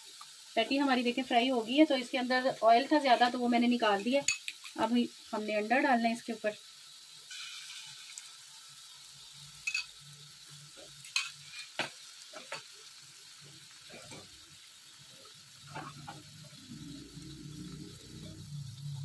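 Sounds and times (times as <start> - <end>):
burger patty sizzling in a pan: 0.0 - 19.0.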